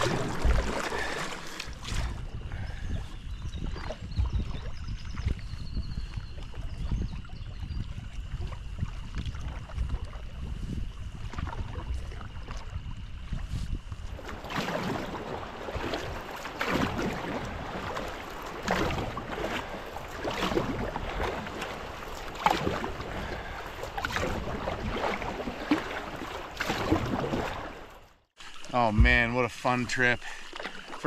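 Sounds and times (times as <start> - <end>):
wind rumble on microphone: 0.0 - 26.2
paddle splashing and dripping: 0.0 - 31.0.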